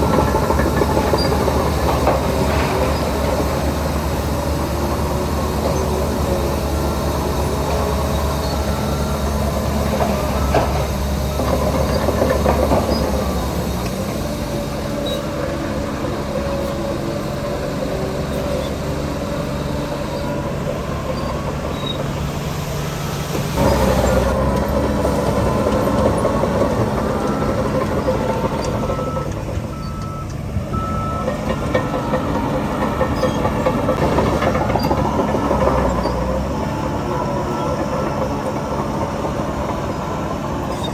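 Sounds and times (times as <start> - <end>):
heavy diesel engine working: 0.0 - 40.9.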